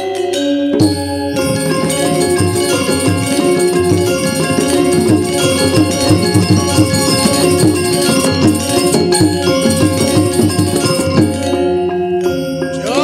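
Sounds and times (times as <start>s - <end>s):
metal percussion ringing: 0.0s - 13.0s
drum strokes: 0.7s - 12.1s.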